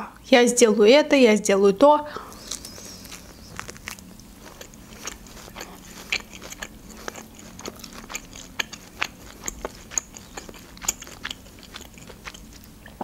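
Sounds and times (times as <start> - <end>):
person chewing meat: 2.3 - 13.0.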